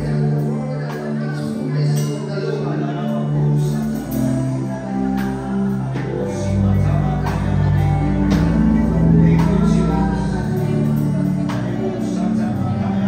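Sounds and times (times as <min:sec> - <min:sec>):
deep bass: 0:00.0 - 0:13.0
man singing into a microphone: 0:00.0 - 0:13.0
sustained instrumental chords: 0:00.0 - 0:13.0.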